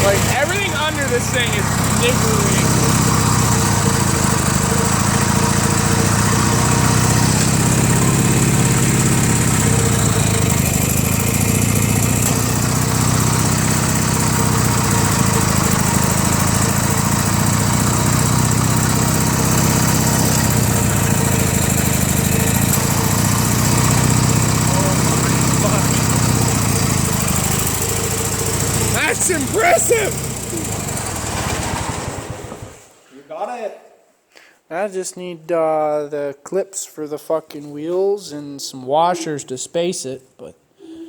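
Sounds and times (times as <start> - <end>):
small engine running: 0.0 - 32.9.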